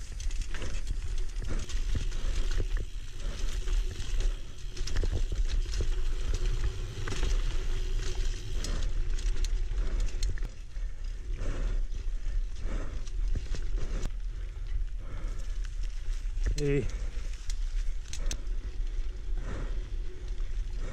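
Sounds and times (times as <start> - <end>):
bike rattling over bumps: 0.0 - 20.9
bike tyres on dirt: 0.0 - 20.9.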